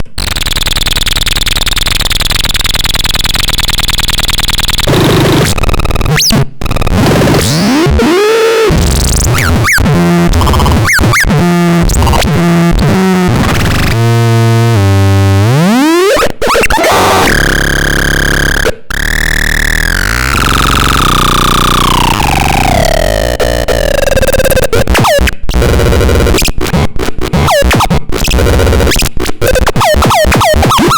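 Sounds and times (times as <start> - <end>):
synthesizer test sounds: 0.2 - 30.9.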